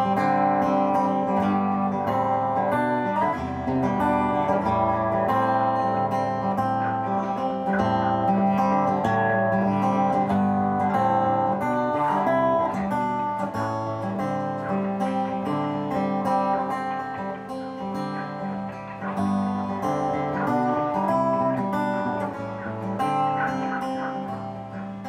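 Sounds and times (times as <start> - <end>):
acoustic guitar plucking: 0.0 - 25.0.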